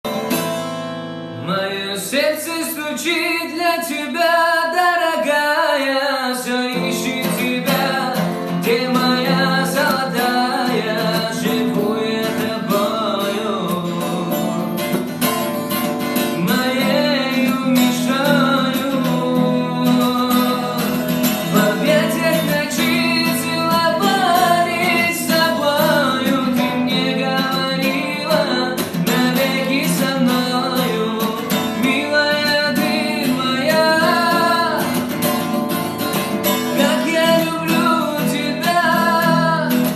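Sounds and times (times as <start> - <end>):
lead guitar melody: 0.1 - 1.6, 6.8 - 39.9.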